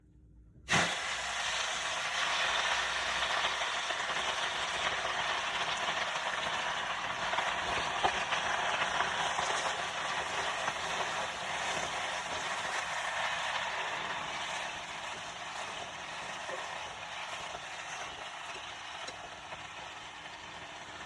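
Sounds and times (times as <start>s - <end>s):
food sizzling in hot oil: 0.7s - 21.0s.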